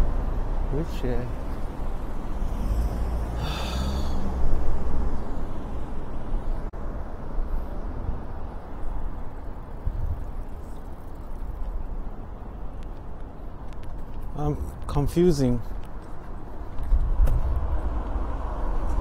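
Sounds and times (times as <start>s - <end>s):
road traffic hum: 0.0s - 19.0s.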